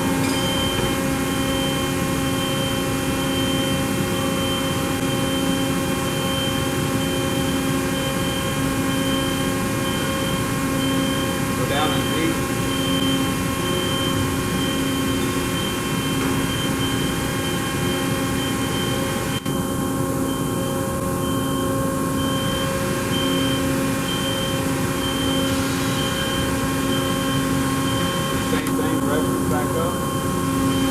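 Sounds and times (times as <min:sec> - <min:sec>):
machinery drone with whining tones: 0:00.0 - 0:30.9.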